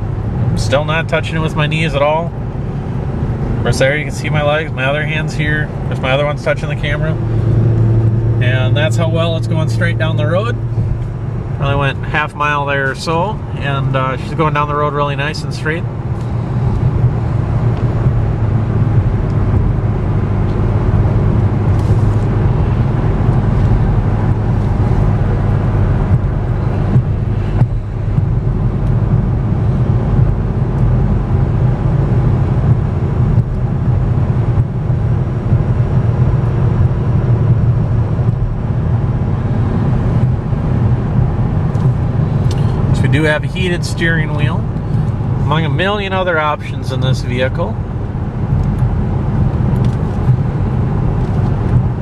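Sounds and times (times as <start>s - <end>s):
road and tyre noise: 0.0s - 52.0s.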